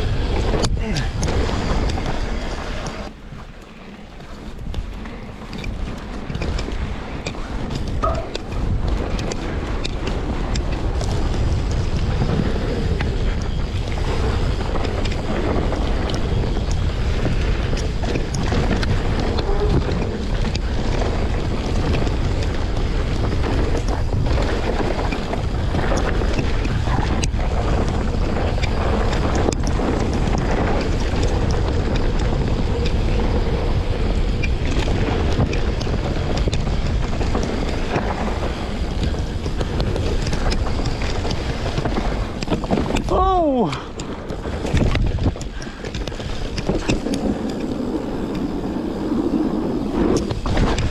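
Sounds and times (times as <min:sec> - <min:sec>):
bike rattling over bumps: 0:00.0 - 0:50.9
bike tyres rolling on dirt: 0:00.0 - 0:50.9
wind on microphone: 0:00.0 - 0:50.9.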